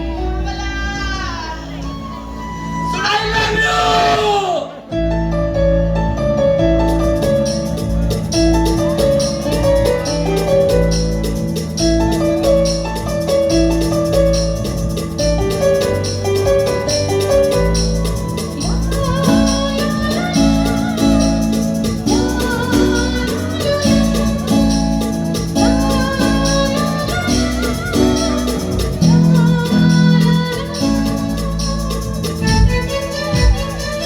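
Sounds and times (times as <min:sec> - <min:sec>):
melody over sustained bass: 0:05.0 - 0:34.0
light percussion: 0:06.2 - 0:34.0.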